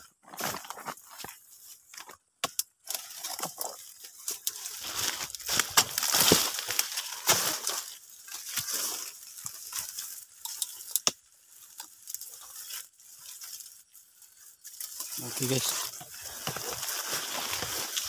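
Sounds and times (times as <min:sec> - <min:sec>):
dry fronds rustling underfoot: 0:00.0 - 0:18.0.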